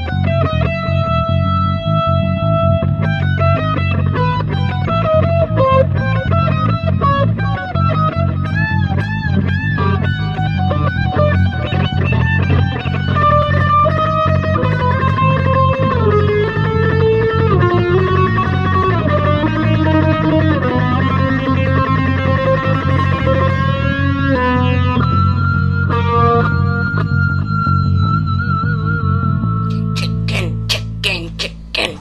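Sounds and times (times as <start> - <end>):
electric guitar solo: 0.0 - 31.7
rock bass and backing: 0.0 - 31.8.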